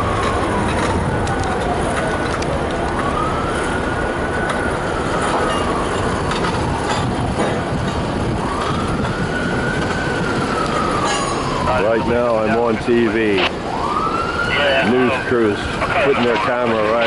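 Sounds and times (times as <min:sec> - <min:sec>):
emergency siren wailing: 0:00.0 - 0:17.0
traffic and machinery rumble: 0:00.0 - 0:17.0.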